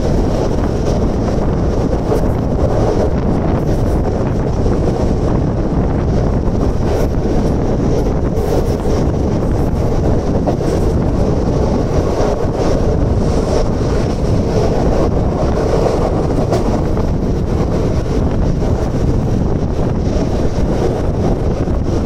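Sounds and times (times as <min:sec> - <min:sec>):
train wheels rumbling on track: 0:00.0 - 0:22.0
wind buffeting microphone: 0:00.0 - 0:22.0.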